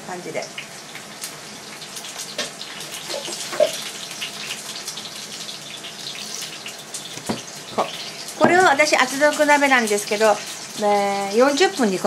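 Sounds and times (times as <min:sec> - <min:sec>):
water pouring into a metal pot: 0:01.8 - 0:12.0.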